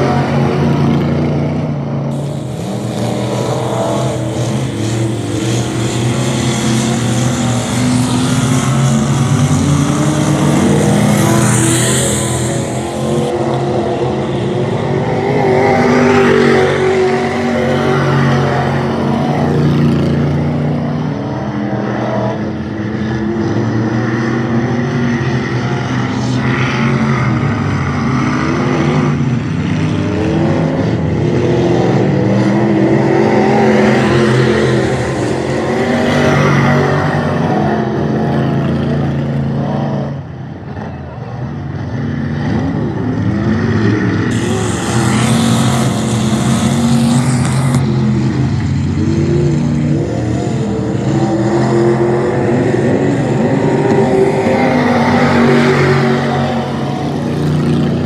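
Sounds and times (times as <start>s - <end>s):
race car engines passing by: 0.0s - 58.0s.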